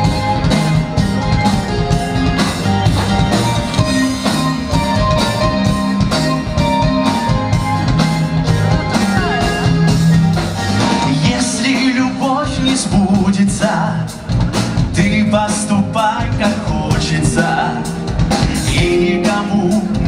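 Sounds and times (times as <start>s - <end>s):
bass guitar: 0.0s - 20.0s
drum kit beat: 0.0s - 20.0s
electric guitar: 0.0s - 20.0s
keyboards: 0.0s - 20.0s.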